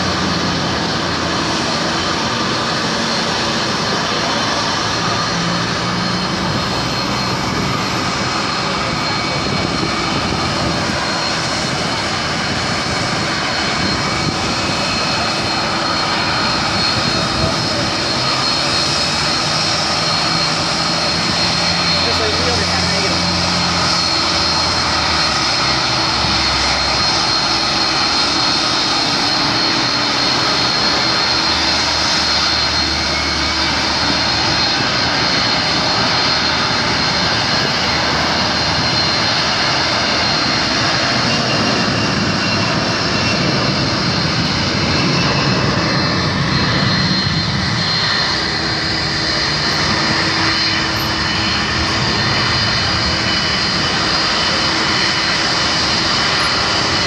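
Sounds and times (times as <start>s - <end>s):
jet engines taxiing: 0.0s - 57.0s.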